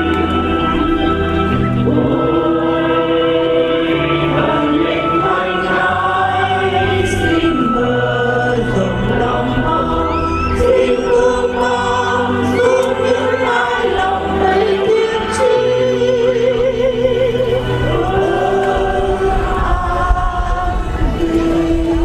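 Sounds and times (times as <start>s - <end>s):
choir singing long notes: 0.0s - 22.0s
music: 0.0s - 22.0s.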